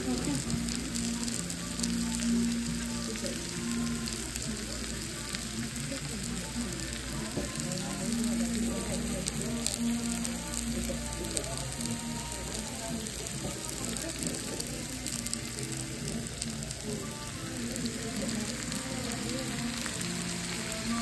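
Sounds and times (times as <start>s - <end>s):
food sizzling in skillet: 0.0s - 21.0s.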